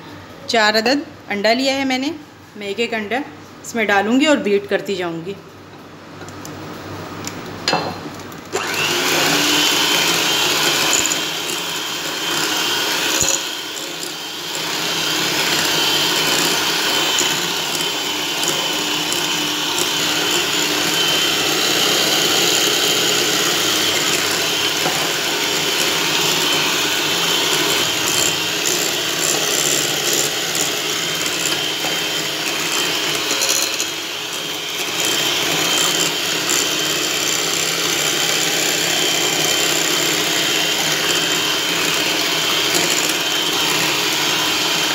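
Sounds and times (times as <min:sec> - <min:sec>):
electric hand mixer whirring: 0:08.4 - 0:44.9.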